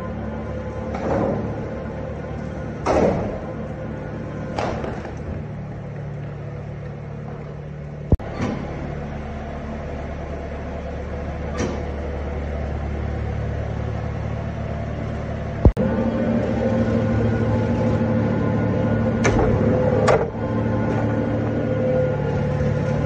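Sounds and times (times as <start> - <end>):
feeder wagon mechanical hum: 0.0 - 23.0.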